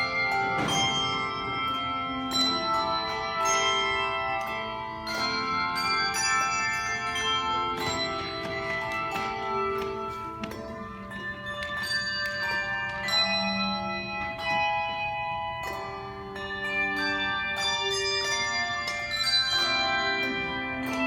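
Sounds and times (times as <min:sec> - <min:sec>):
handbell choir playing: 0:00.0 - 0:21.0.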